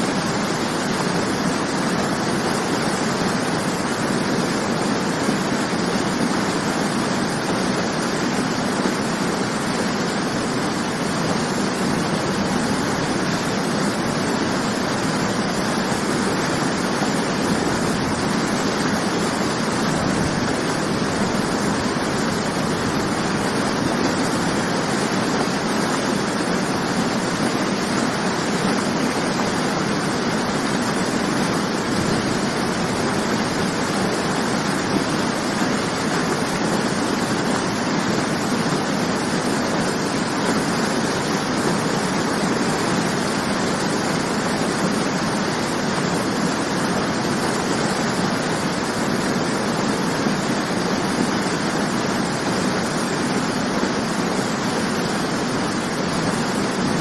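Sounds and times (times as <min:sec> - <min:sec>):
waterfall crashing: 0:00.0 - 0:57.0.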